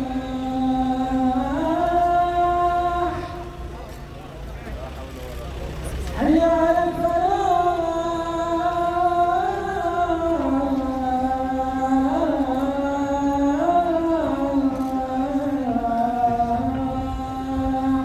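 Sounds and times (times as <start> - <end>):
man singing call to prayer: 0.0 - 4.1, 5.6 - 18.0.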